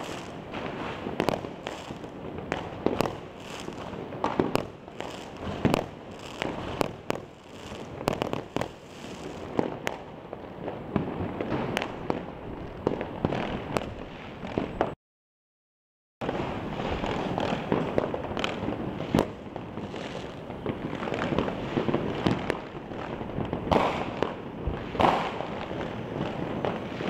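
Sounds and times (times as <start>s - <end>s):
firecracker crackle: 0.0s - 15.0s, 16.2s - 27.0s
fireworks bangs: 0.0s - 15.0s, 16.2s - 27.0s.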